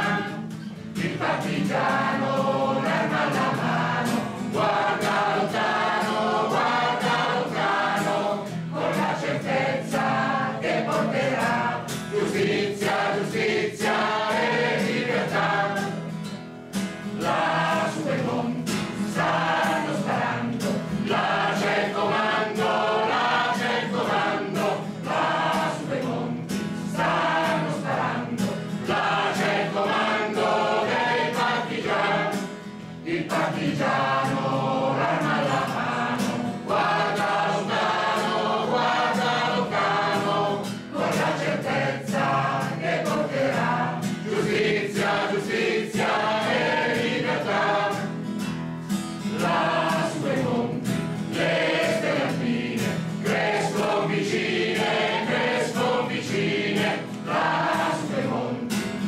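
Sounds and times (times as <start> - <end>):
mixed choir singing: 0.0 - 16.3, 17.0 - 59.0
acoustic guitar strumming: 0.0 - 59.0.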